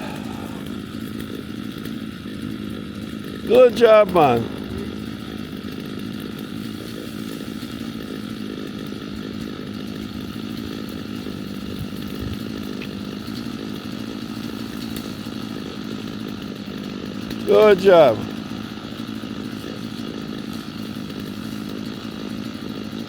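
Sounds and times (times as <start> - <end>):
chainsaw running: 0.0 - 23.0.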